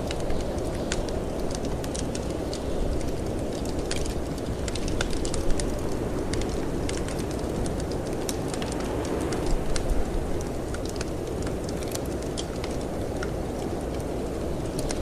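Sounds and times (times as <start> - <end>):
low rush of wind: 0.0 - 15.0
wood fire crackling: 0.0 - 15.0.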